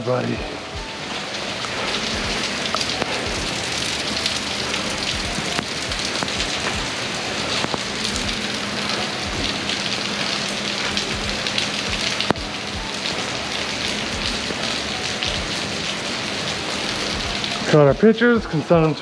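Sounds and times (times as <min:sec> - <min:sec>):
heavy rain falling: 0:00.0 - 0:19.0
raindrops ticking close: 0:00.0 - 0:19.0.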